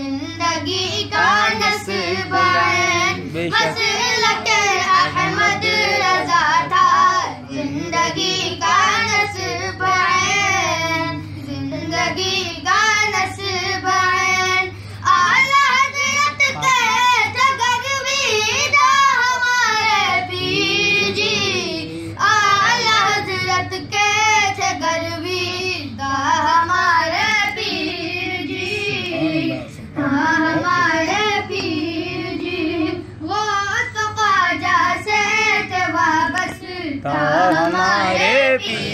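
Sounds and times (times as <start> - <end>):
young person singing unaccompanied: 0.0 - 38.9.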